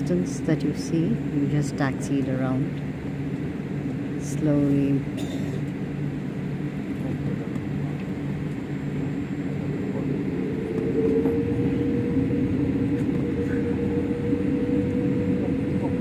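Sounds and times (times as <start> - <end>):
high engine whine: 0.0 - 16.0
jet engine cabin drone: 0.0 - 16.0.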